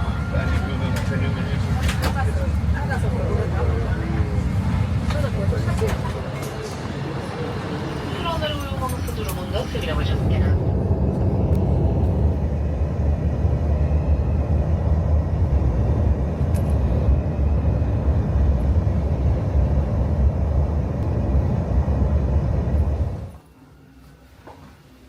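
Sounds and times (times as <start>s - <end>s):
airliner cabin engine rumble: 0.0s - 23.5s
airflow noise: 0.1s - 23.4s.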